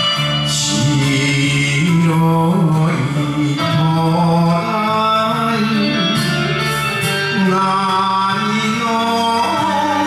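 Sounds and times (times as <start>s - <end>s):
karaoke backing track with guitar: 0.0s - 10.0s
man singing: 0.0s - 10.0s.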